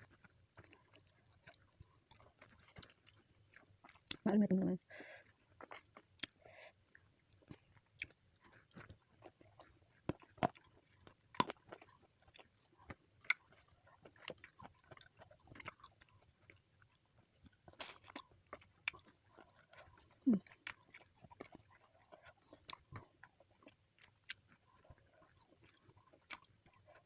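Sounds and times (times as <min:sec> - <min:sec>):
chewing with crunches: 0:00.0 - 0:04.3, 0:04.9 - 0:27.0.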